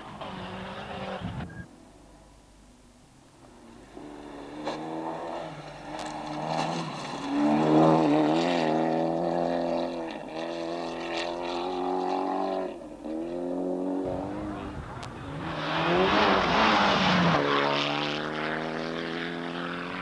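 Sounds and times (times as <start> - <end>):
rally car engine revving: 0.0 - 1.5, 3.6 - 20.0.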